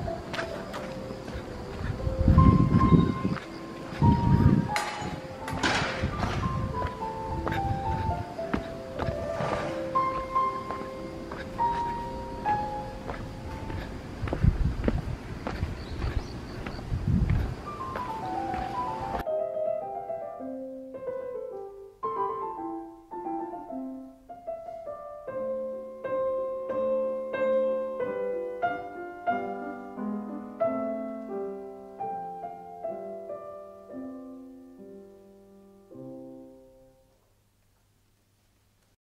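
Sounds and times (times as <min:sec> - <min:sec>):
slow piano piece: 0:00.0 - 0:38.4.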